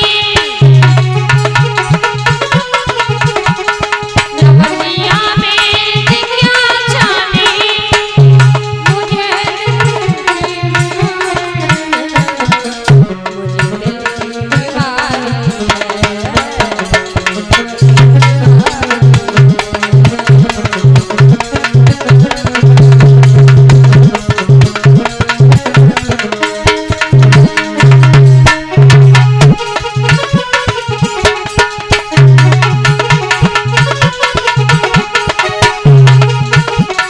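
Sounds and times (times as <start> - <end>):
hand drums fast rhythm: 0.0 - 37.0
ornamented melody line: 0.0 - 37.0.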